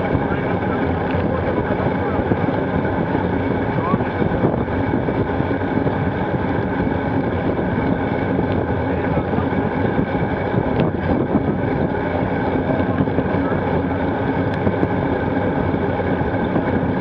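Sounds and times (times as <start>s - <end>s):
wind rush: 0.0s - 17.0s.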